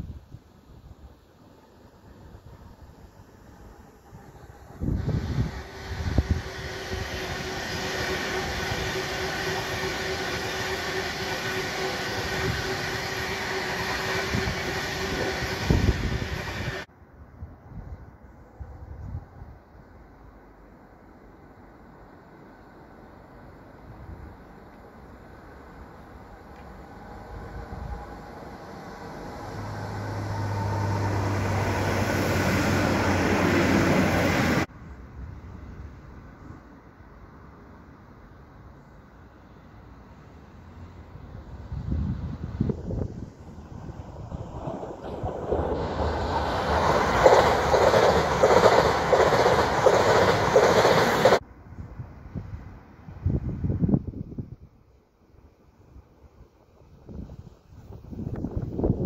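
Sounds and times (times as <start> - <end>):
electric train passing: 0.0 - 16.9, 18.2 - 51.5
wheels rushing on rail: 0.0 - 16.9, 17.7 - 54.5, 55.8 - 59.0.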